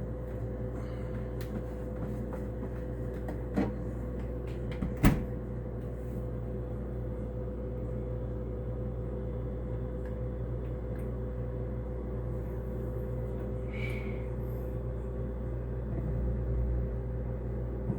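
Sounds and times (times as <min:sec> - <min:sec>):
dishwasher motor hum: 0:00.0 - 0:17.9.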